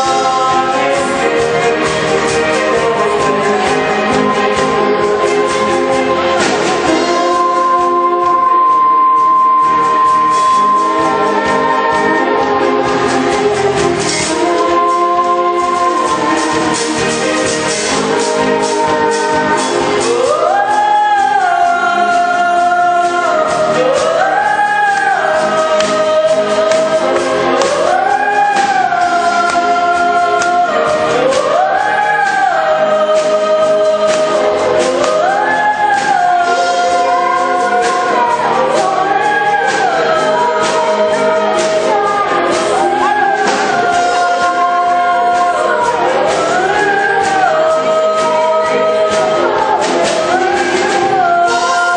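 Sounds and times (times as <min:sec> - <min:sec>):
choir singing pop song: 0:00.0 - 0:51.9
instrumental backing: 0:00.0 - 0:51.9.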